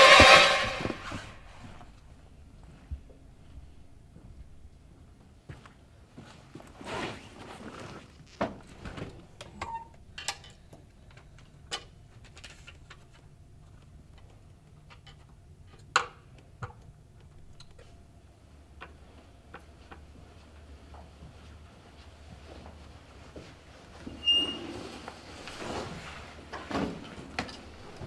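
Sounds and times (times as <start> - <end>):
faint low hum: 0.7 - 28.0.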